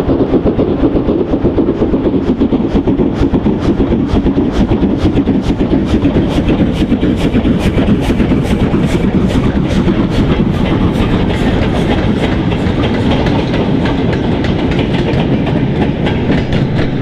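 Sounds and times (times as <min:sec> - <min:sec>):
freight train wagons rumbling: 0:00.0 - 0:17.0
wheels clicking over rail joints: 0:00.1 - 0:17.0.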